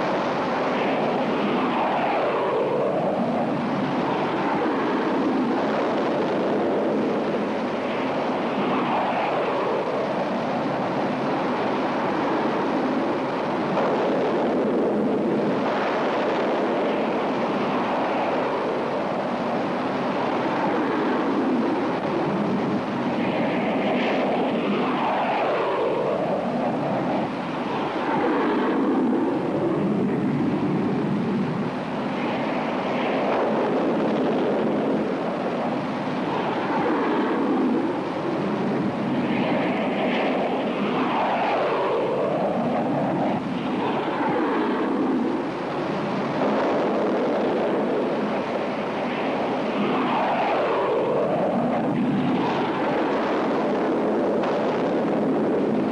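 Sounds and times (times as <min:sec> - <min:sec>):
jet engine rushing: 0:00.0 - 0:55.9.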